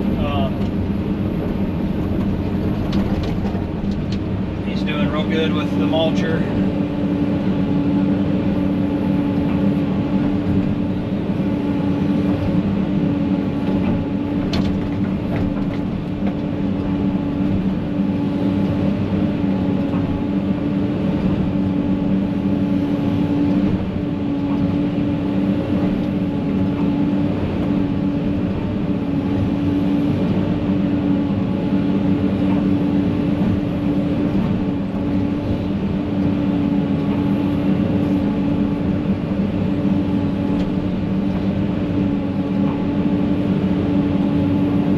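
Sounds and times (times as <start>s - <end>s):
engine droning steadily: 0.0s - 44.9s.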